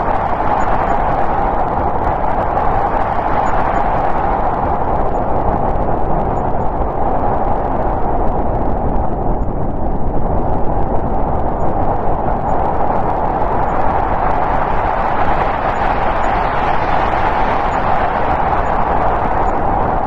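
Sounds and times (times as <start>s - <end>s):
storm wind blowing: 0.0s - 20.0s.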